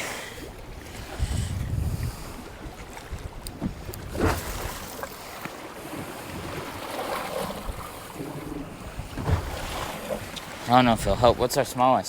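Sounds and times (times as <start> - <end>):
waves lapping against boat hull: 0.0 - 12.0
wind buffeting microphone: 0.4 - 11.8.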